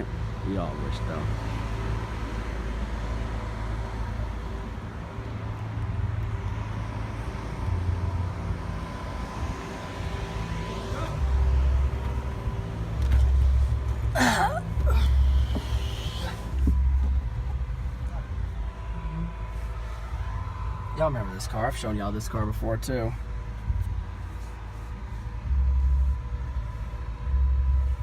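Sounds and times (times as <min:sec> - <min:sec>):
car engines idling: 0:00.0 - 0:28.0.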